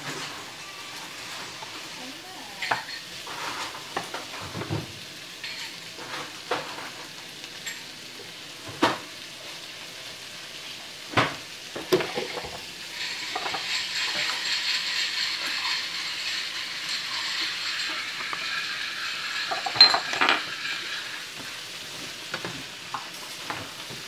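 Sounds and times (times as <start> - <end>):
food sizzling in frying pan: 0.0 - 24.0.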